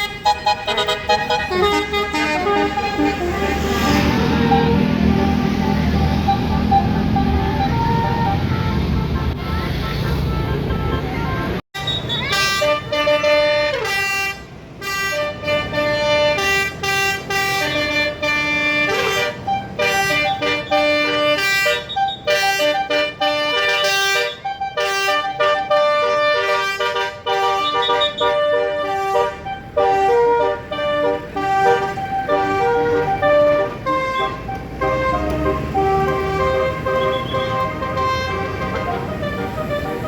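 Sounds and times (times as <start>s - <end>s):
bus horn playing a melody: 0.0s - 40.0s.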